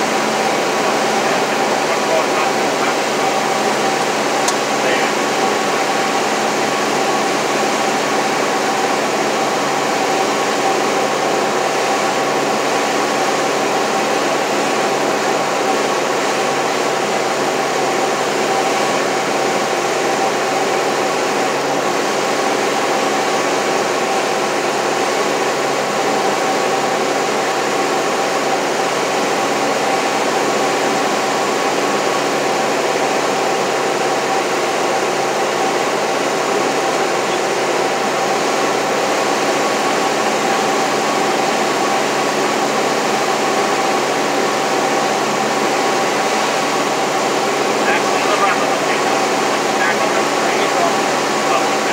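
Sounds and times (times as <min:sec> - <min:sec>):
light aircraft engine drone: 0:00.0 - 0:51.9.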